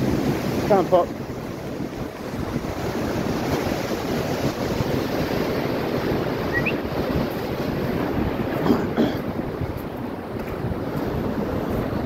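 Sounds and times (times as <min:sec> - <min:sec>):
sea waves splashing on shore: 0:00.0 - 0:12.0
wind buffeting microphone: 0:00.0 - 0:12.0.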